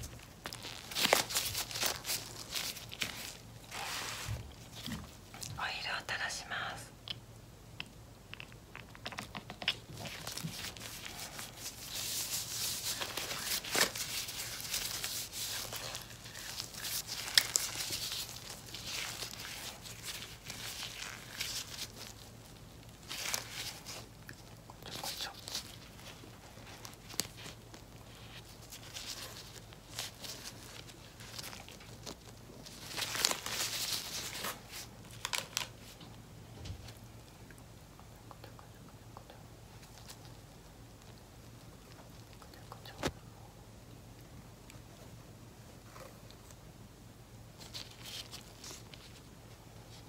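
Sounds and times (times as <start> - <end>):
plastic gloves crinkling and rustling: 0.0 - 6.0, 8.7 - 37.5, 39.6 - 43.2, 47.4 - 50.0.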